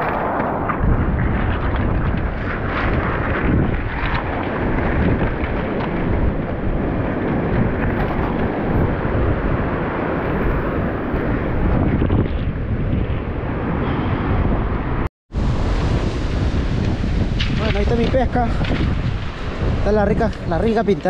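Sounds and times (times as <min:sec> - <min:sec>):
surf on a beach: 0:00.0 - 0:21.0
wind buffeting microphone: 0:00.0 - 0:21.0.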